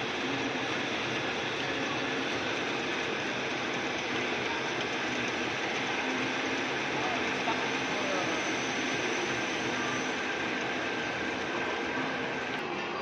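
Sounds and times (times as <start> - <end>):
drill press boring metal: 0.0 - 12.8.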